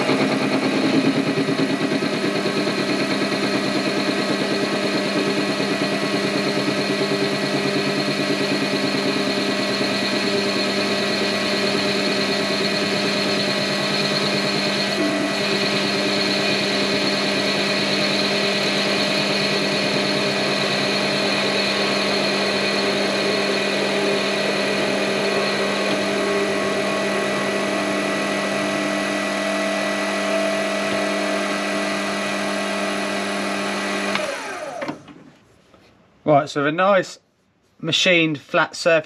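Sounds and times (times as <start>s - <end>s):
lathe motor humming: 0.0s - 35.0s.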